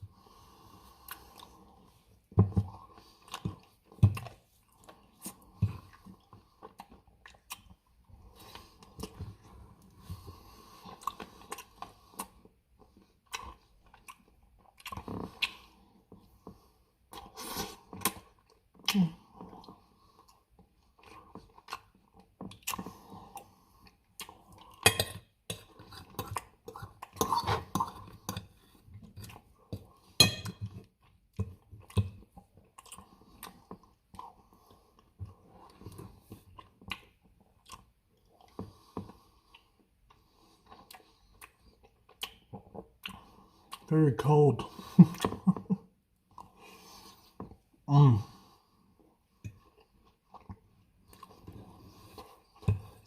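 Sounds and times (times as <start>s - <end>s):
wet chewing sounds: 0.1s - 43.9s, 48.9s - 53.0s.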